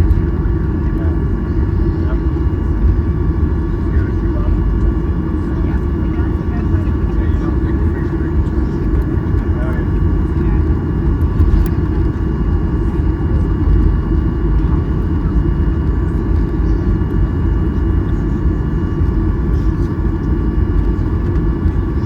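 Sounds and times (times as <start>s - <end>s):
jet engines idling rumble: 0.0s - 22.0s.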